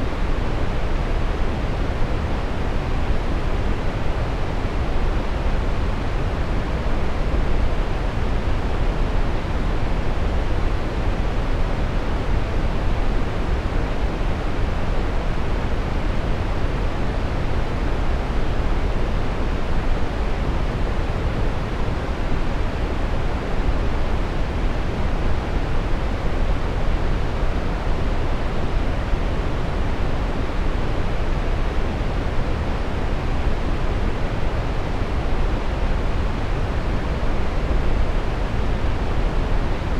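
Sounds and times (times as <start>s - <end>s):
brown noise rumbling hiss: 0.0s - 39.9s.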